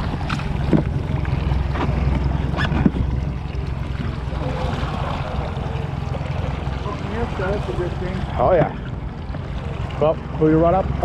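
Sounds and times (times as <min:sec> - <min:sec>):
boat engine rumble: 0:00.0 - 0:11.0
water against hull: 0:00.0 - 0:11.0
wind buffeting microphone: 0:00.0 - 0:11.0.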